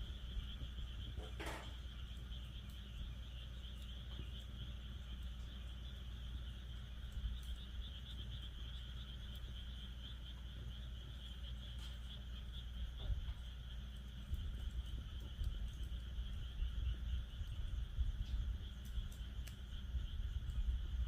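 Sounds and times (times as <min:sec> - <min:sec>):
frogs calling: 0:00.0 - 0:21.0
insects chirping: 0:00.0 - 0:21.0
wood fire crackling: 0:00.0 - 0:21.0.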